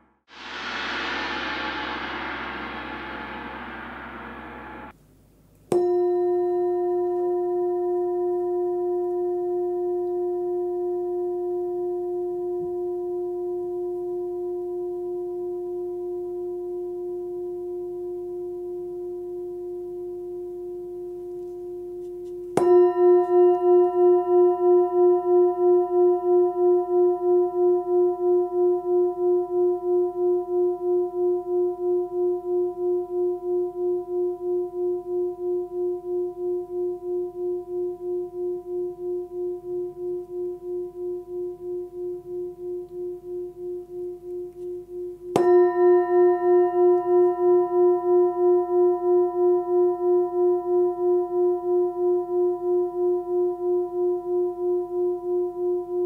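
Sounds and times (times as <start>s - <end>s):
singing bowl ringing: 5.7s - 56.0s.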